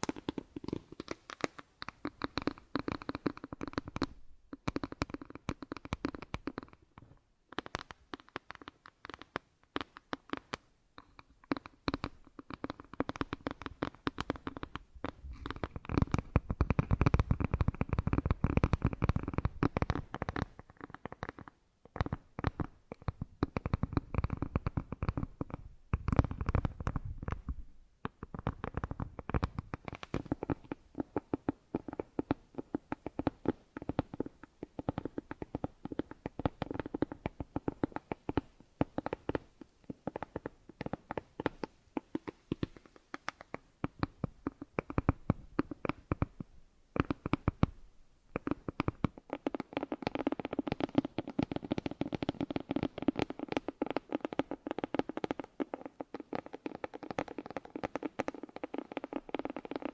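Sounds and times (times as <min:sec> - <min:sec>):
rapid crackling and tapping clicks: 0:00.0 - 0:59.9.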